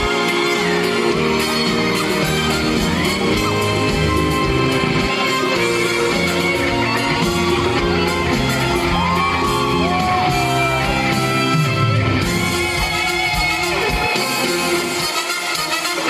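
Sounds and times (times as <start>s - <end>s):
audience shouting and whooping: 0.0s - 15.8s
pop music over loudspeakers: 0.0s - 16.0s.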